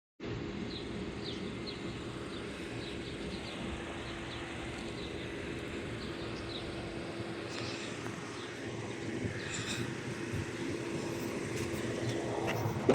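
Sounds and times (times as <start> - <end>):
car driving road noise: 0.4 - 12.9.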